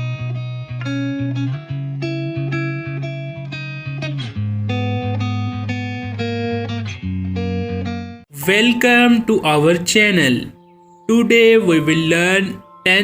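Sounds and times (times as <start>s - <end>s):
plucked guitar chords: 0.0s - 13.0s.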